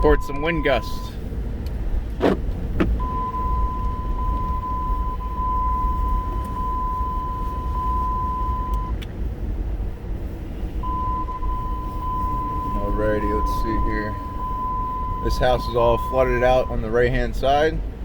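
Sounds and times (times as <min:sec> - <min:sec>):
car rumble: 0:00.0 - 0:18.0
wind buffeting car: 0:00.0 - 0:18.0.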